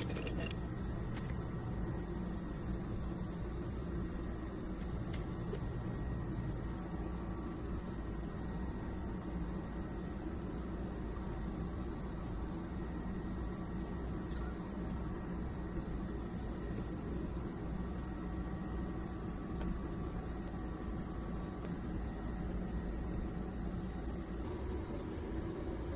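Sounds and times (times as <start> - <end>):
low hum and hiss: 0.0 - 25.9.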